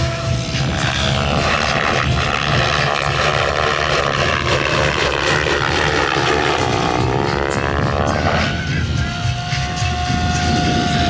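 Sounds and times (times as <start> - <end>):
rc helicopter whining overhead: 0.0 - 11.0.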